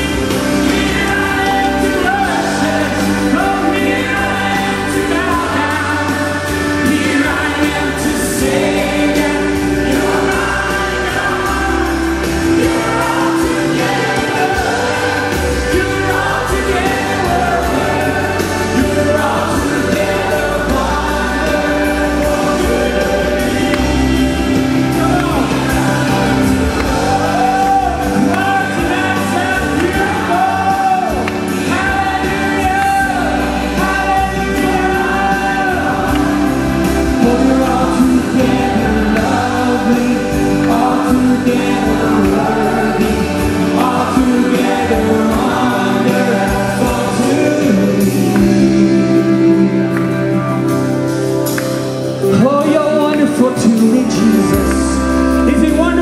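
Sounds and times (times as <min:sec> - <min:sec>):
group singing gospel music: 0:00.0 - 0:56.0
musical accompaniment: 0:00.0 - 0:56.0.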